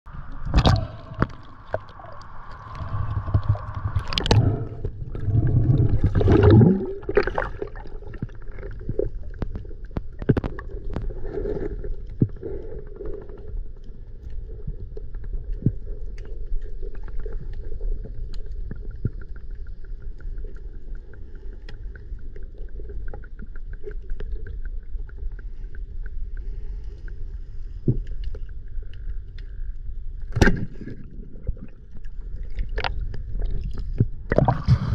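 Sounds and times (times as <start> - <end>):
underwater rumble of moving water: 0.0 - 34.9.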